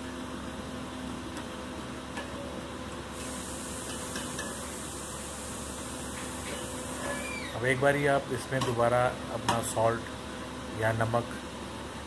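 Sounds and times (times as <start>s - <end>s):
steady kitchen hiss: 1.7s - 12.0s.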